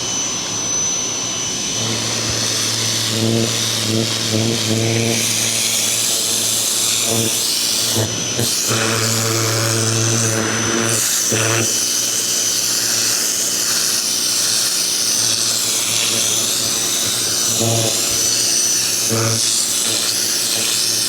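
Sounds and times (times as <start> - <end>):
pressure washer pump motor hum: 0.0 - 21.0
water jet hissing: 1.8 - 21.0.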